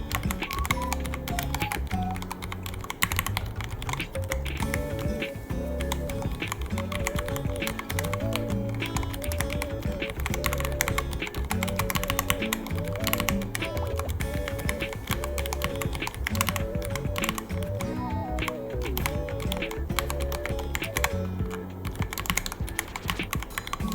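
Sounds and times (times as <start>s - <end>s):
background music: 0.0s - 23.9s
mechanical keyboard typing: 0.0s - 23.9s.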